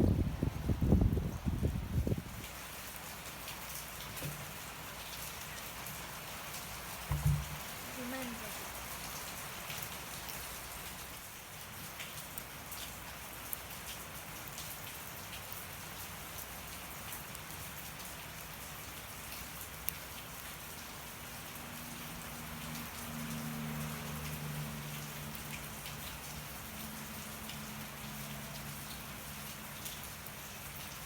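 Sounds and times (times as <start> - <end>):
rain falling: 0.0 - 31.0
wood fire crackling: 0.4 - 31.0.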